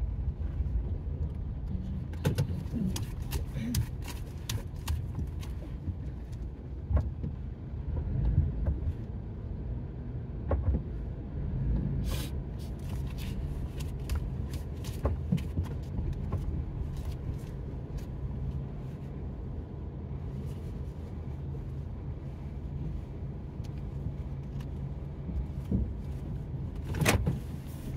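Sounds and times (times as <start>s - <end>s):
car engine and road hum: 0.0s - 27.9s.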